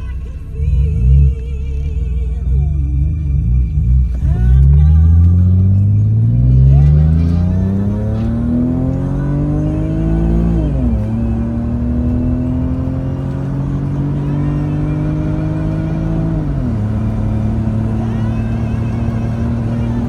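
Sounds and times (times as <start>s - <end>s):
car engine at full throttle: 0.0s - 20.0s.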